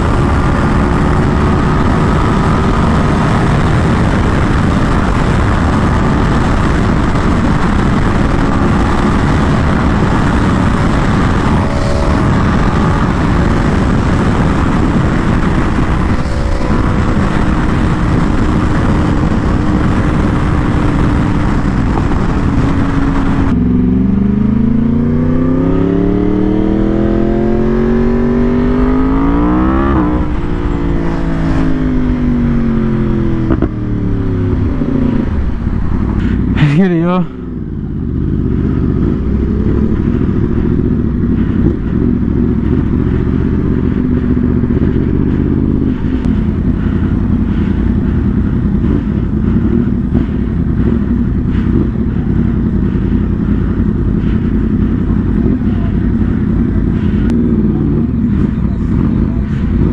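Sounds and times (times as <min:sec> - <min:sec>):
motorcycle engine accelerating: 0:00.0 - 0:59.9
wind rushing over microphone: 0:00.0 - 0:59.9.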